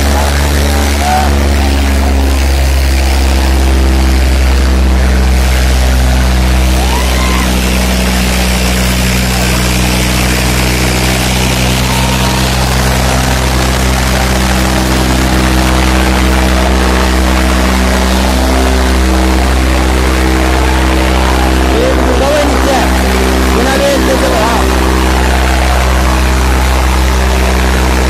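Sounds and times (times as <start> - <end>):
tractor diesel engine at high revs: 0.0 - 28.0.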